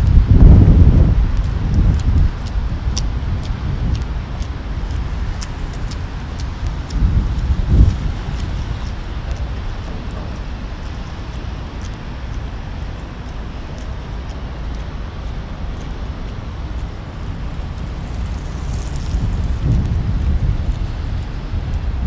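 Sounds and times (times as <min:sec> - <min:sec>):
traffic on wet road: 0:00.0 - 0:22.0.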